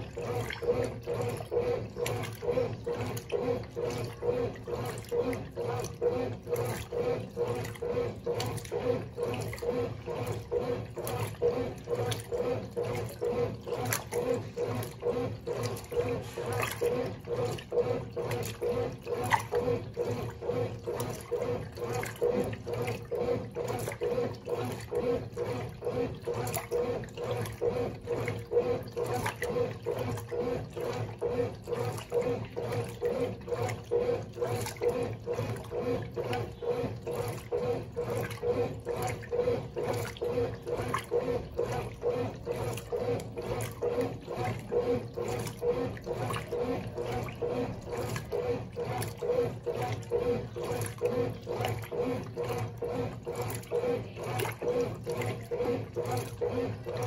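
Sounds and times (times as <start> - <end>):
motor hum: 0.0 - 57.0
washing machine agitating: 0.0 - 57.0.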